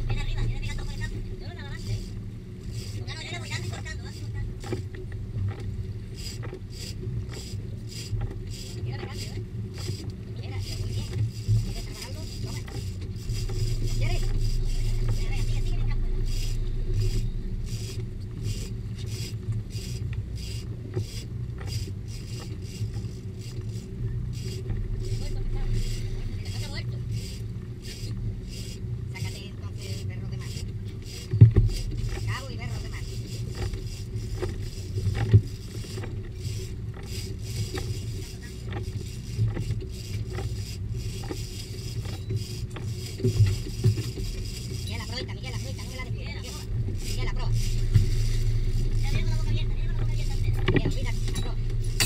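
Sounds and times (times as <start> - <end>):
fishing reel scraping hiss: 0.0 - 4.9, 6.1 - 52.0
boat engine rumble: 0.0 - 52.0.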